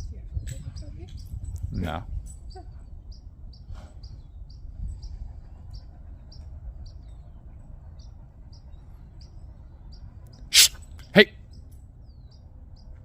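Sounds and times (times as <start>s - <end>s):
bird chirping: 0.4s - 13.0s.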